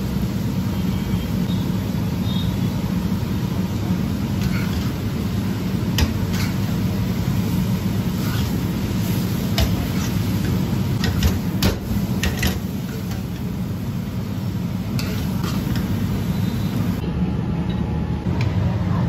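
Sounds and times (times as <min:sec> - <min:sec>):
food stir-frying in wok: 0:00.0 - 0:17.0
gas burner rushing: 0:00.0 - 0:17.0.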